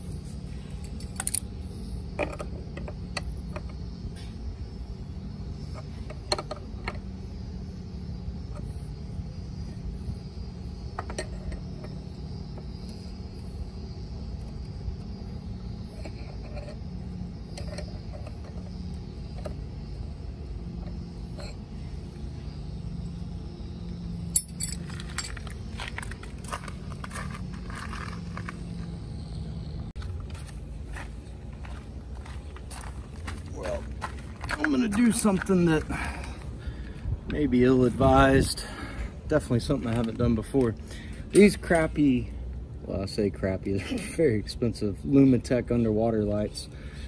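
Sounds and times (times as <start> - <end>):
low hum: 0.0 - 43.7.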